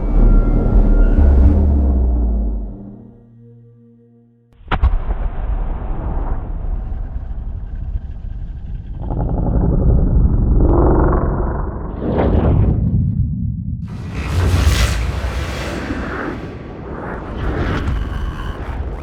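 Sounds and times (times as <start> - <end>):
heavy deep rumble: 0.0 - 3.5, 4.7 - 19.0.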